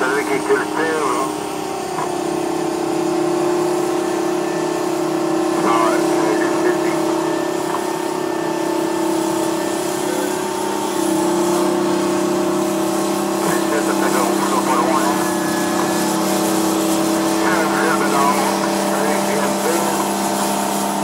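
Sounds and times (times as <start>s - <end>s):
snowblower engine droning: 0.0s - 21.0s.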